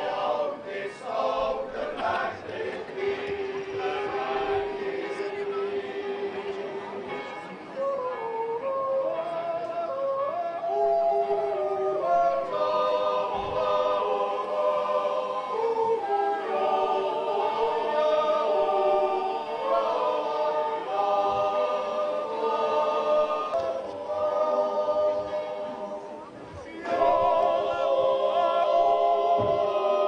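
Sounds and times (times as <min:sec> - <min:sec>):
choir singing in harmony: 0:00.0 - 0:08.0, 0:09.0 - 0:30.0.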